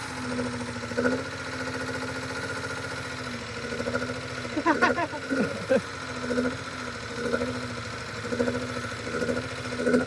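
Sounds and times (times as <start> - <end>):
car engine idling roughly: 0.0 - 10.0
engine ticking: 0.0 - 10.0.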